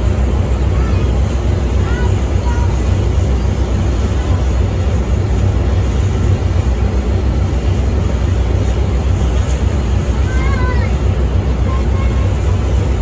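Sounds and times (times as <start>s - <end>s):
shuttle bus rumble from inside: 0.0s - 13.0s.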